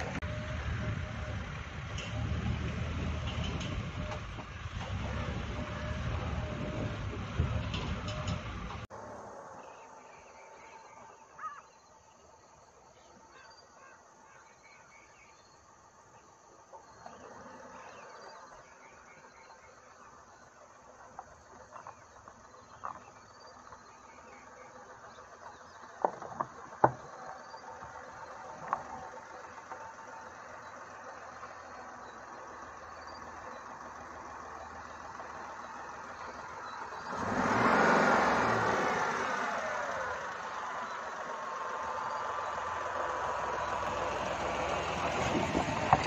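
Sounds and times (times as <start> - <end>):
car engine running: 0.0 - 8.9, 16.8 - 46.0
insects chirping: 8.9 - 46.0.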